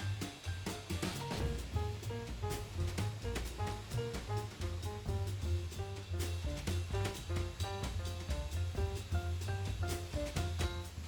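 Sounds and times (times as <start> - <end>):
drum kit beats: 0.0 - 11.0
low bass line: 1.4 - 11.0.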